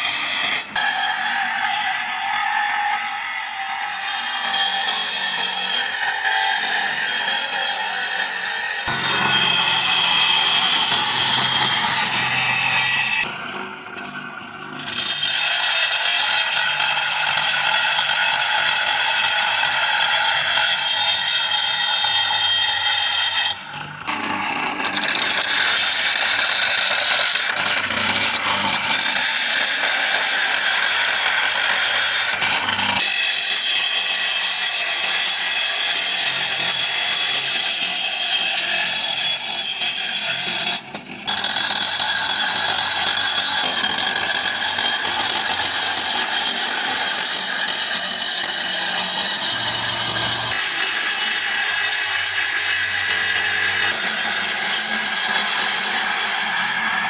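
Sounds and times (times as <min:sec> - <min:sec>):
grinder whining on steel: 0:00.0 - 0:57.0.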